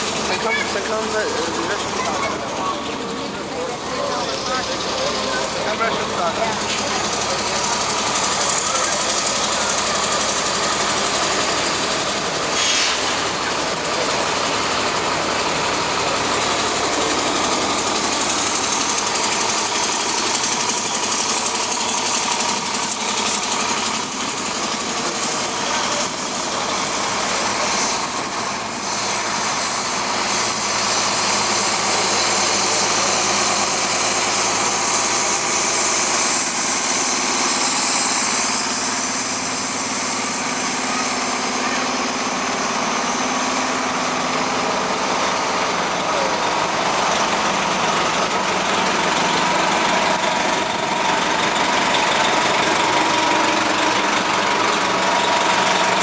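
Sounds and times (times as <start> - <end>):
bus engine running: 0.0 - 56.0.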